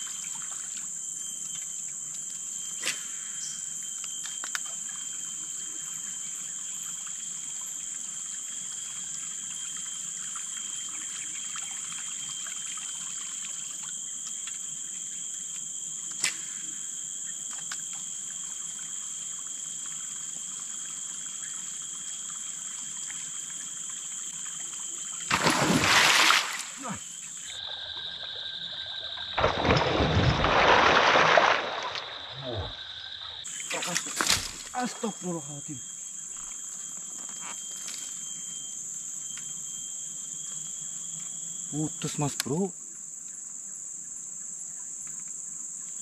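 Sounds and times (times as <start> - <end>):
high-pitched insect drone: 0.0 - 30.2, 30.9 - 46.0.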